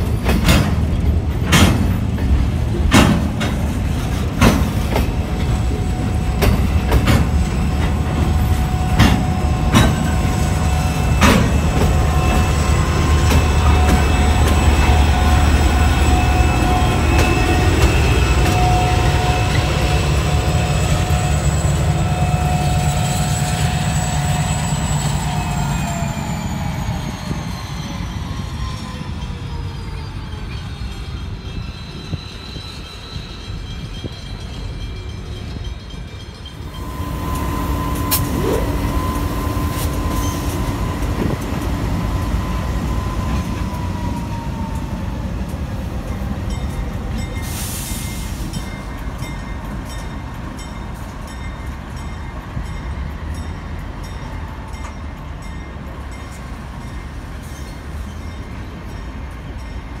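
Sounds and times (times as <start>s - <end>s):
locomotive engine rumble and whine: 0.0s - 34.8s, 36.3s - 60.0s.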